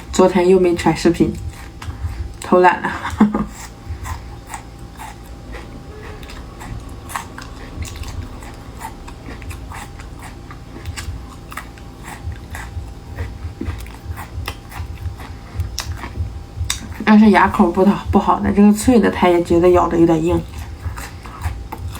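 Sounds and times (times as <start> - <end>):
person chewing crunchy food: 0.0 - 21.9.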